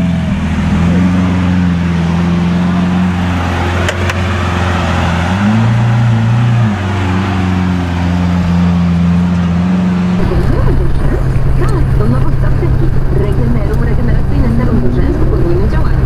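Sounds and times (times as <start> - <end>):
car engine droning: 0.0 - 16.0
road noise: 0.0 - 16.0.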